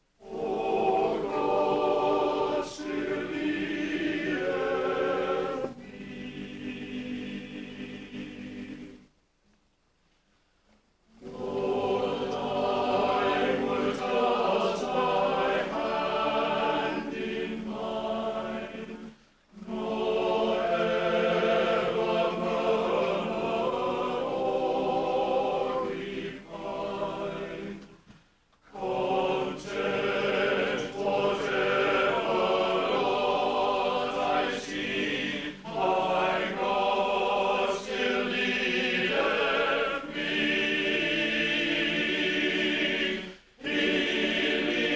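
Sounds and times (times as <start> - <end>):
mixed choir singing in parts: 0.2 - 9.1, 11.2 - 44.9.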